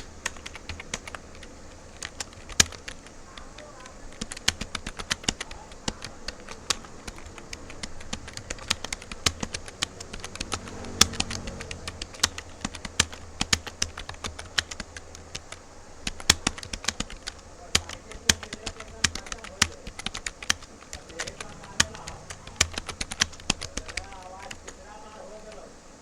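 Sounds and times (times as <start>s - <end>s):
computer keyboard typing: 0.0s - 25.9s
low hum: 0.0s - 26.0s.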